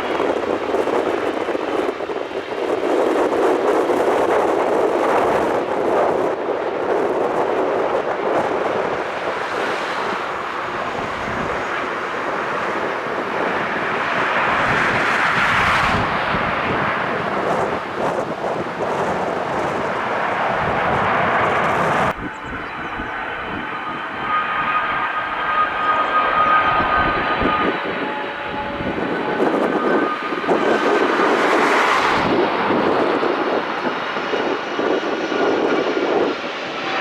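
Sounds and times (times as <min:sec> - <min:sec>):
jet engines rushing: 0:00.0 - 0:37.0
wind on microphone: 0:00.0 - 0:37.0.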